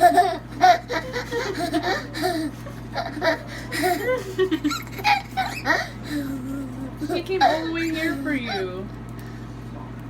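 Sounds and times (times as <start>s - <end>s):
young child laughing: 0.0s - 8.8s.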